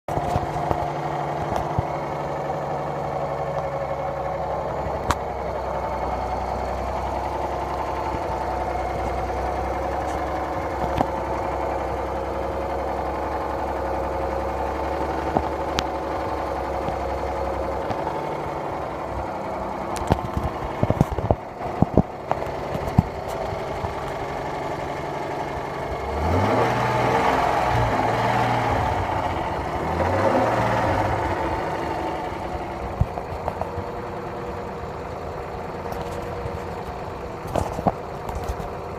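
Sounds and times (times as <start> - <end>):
engine idling with knock: 0.0 - 38.9.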